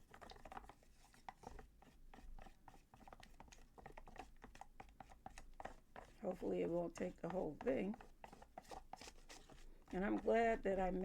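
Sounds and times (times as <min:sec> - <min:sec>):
wet plaster being stirred: 0:00.0 - 0:11.0.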